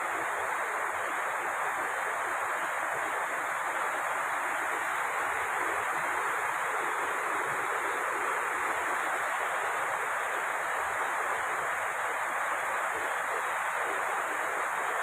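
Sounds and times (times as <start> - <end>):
rain on a metal roof: 0.0 - 15.0.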